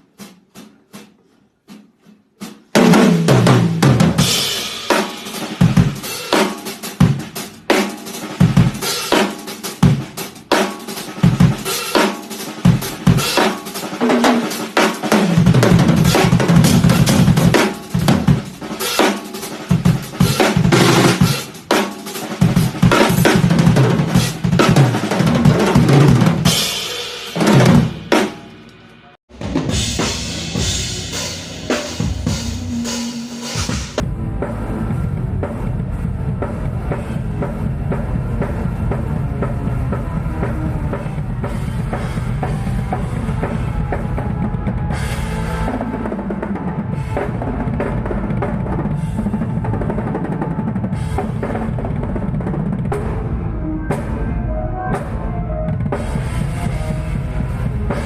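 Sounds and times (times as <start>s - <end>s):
cymbals: 0.0s - 58.0s
rock drum kit fills: 0.0s - 58.0s
fast bass drum strokes: 0.1s - 28.7s, 29.3s - 58.0s.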